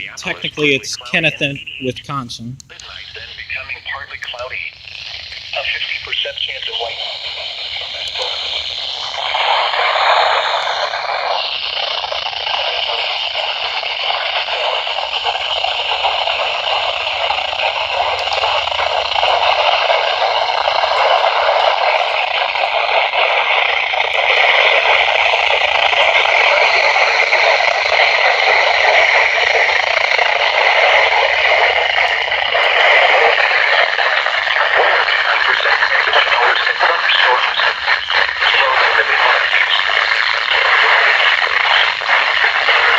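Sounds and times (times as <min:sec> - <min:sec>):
radio static hiss: 0:00.0 - 0:42.9.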